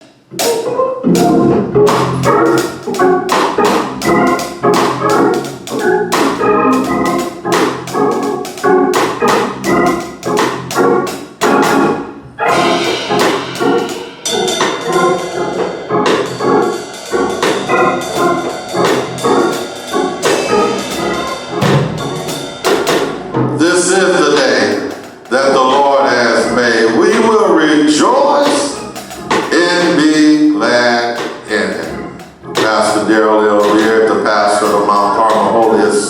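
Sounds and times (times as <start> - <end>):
organ chords: 0.0 - 36.0.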